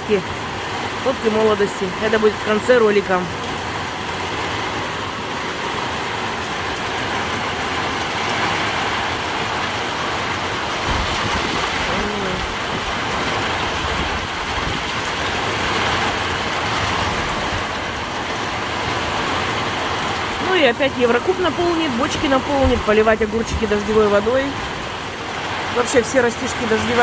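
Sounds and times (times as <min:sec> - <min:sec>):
heavy rain drumming on roof: 0:00.0 - 0:27.0.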